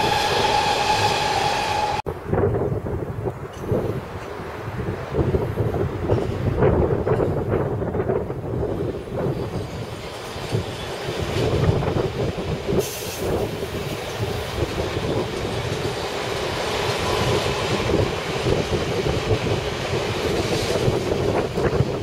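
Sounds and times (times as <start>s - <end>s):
train wheels rumbling on rail: 0.0s - 2.6s, 3.3s - 22.0s.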